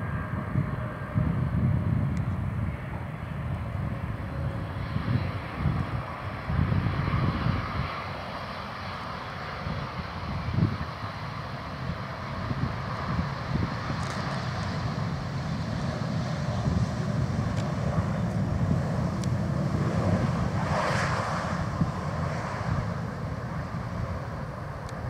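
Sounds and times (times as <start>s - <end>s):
jet engines rushing: 0.0s - 25.0s
wind buffeting microphone: 0.0s - 25.0s.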